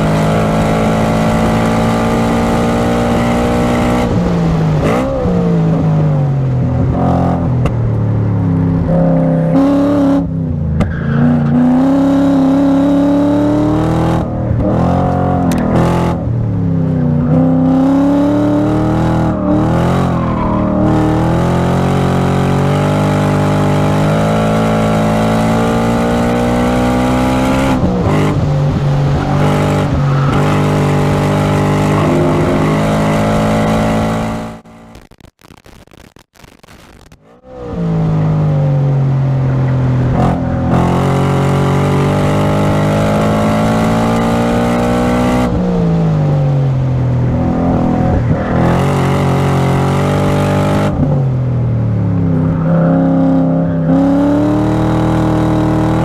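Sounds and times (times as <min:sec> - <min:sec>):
car engine revving: 0:00.0 - 0:35.1, 0:37.2 - 0:56.0.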